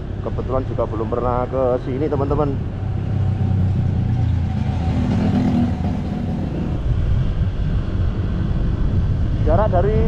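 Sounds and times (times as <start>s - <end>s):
road noise: 0.0s - 10.0s
wind: 0.0s - 10.0s.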